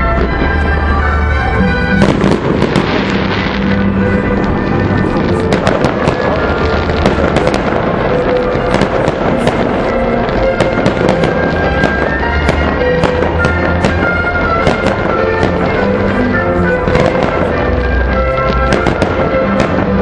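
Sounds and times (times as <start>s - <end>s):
fireworks bangs and crackles: 0.0s - 20.0s
music of long held notes: 0.0s - 20.0s.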